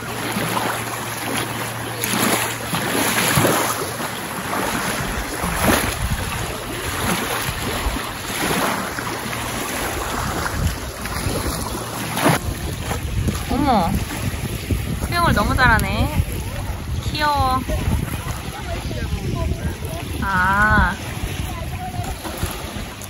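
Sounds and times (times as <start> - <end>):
waves lapping on gravel shore: 0.0 - 23.0
wind buffeting microphone: 3.2 - 23.0.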